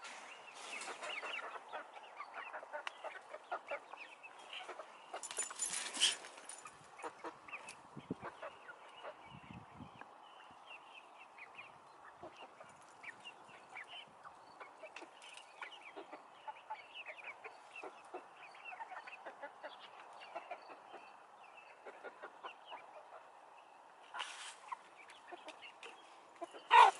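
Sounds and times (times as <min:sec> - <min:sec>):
chickens clucking: 0:00.0 - 0:26.9.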